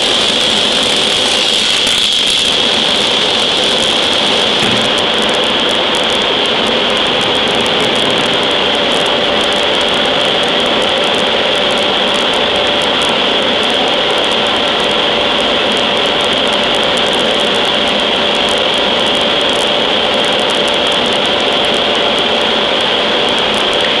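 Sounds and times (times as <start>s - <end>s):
high machinery whine: 0.0s - 24.0s
low machinery hum: 0.0s - 24.0s.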